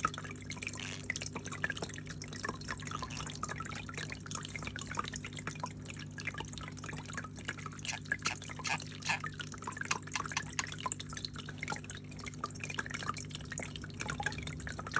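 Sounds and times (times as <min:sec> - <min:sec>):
pump hum: 0:00.0 - 0:14.9
water trickling and dripping: 0:00.0 - 0:14.9.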